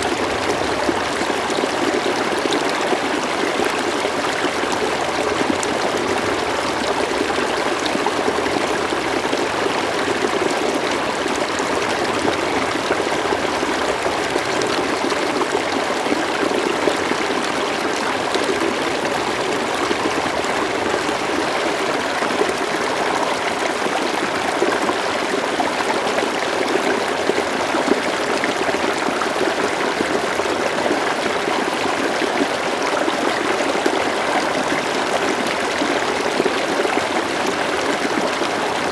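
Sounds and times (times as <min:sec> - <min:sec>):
river babbling over stones: 0:00.0 - 0:38.9.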